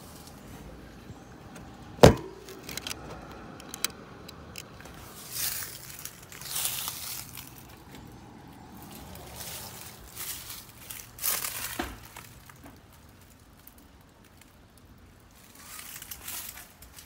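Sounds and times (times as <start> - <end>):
rustling and crunching: 0.0 - 17.0.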